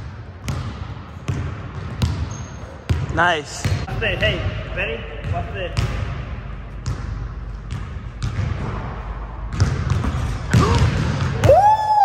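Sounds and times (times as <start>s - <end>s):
basketball bouncing on court: 0.0s - 4.6s, 5.2s - 12.0s.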